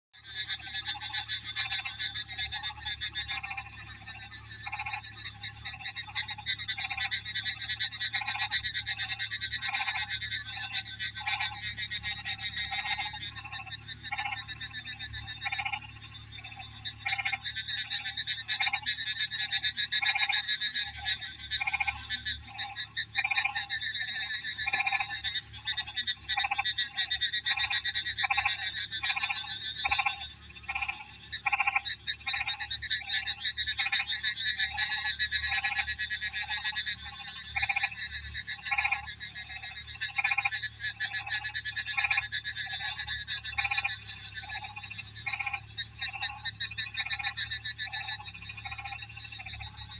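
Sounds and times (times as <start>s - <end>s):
frogs croaking: 0.1s - 49.9s.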